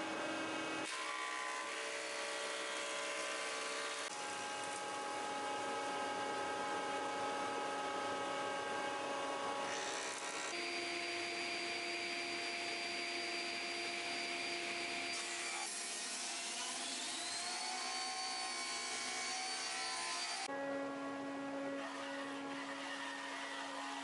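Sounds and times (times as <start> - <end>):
thickness planer running: 0.0 - 24.0.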